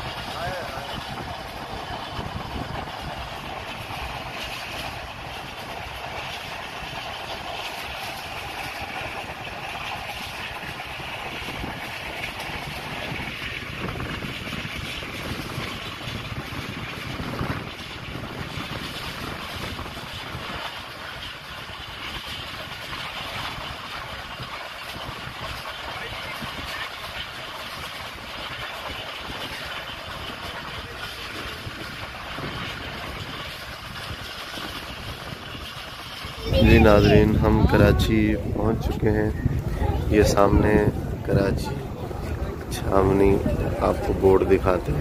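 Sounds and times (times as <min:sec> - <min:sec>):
train running rumble: 0:00.0 - 0:45.0.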